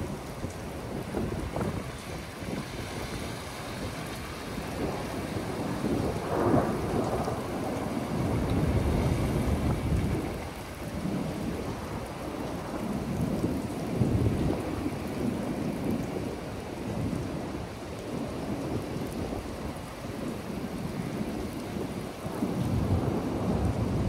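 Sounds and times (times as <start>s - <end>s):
rolling thunder: 0.0s - 24.0s
steady rain: 0.0s - 24.0s.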